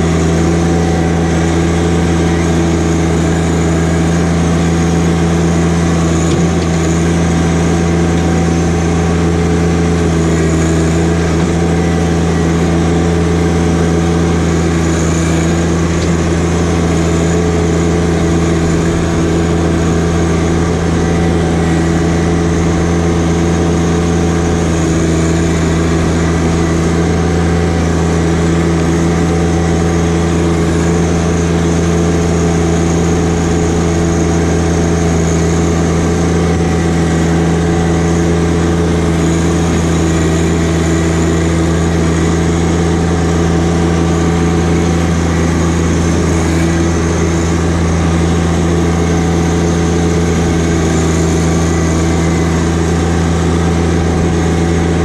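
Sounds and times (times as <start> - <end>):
tractor diesel engine droning: 0.0 - 55.0.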